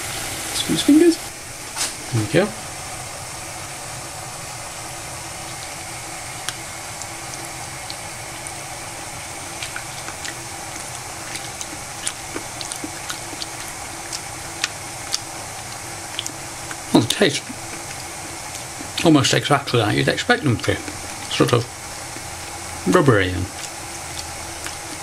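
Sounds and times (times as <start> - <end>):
simmering water hiss: 0.0 - 25.0.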